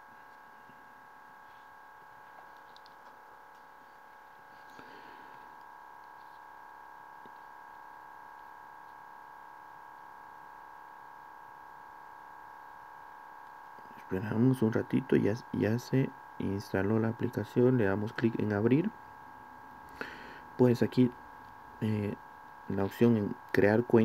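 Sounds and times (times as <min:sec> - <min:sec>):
faint electrical whine: 0:00.0 - 0:24.0.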